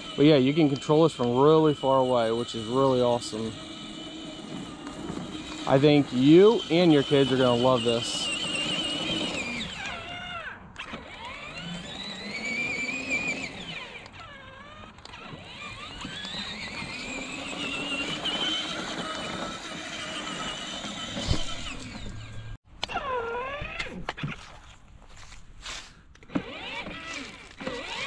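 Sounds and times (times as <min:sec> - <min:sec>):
electric motor whining: 0:00.0 - 0:24.3, 0:26.2 - 0:28.0.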